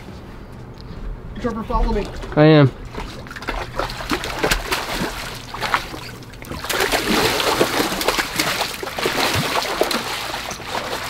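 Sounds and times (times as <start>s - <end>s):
fish thrashing and splashing water: 1.9s - 11.0s.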